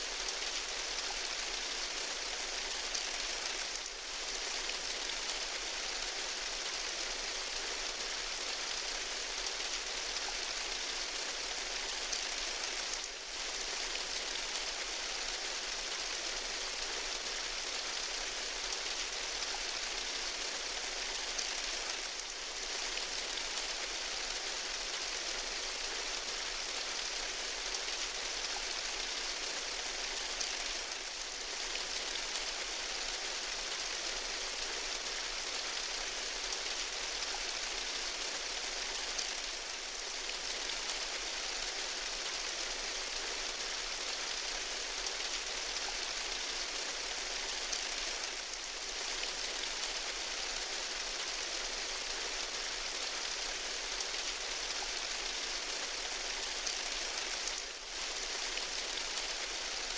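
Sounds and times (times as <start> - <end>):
heavy rain on tin roof: 0.0 - 59.9.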